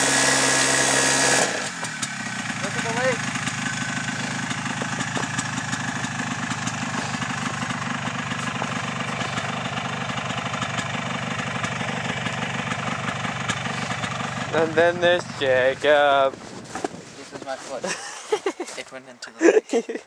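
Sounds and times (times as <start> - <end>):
quad engine idling: 0.0 - 16.6.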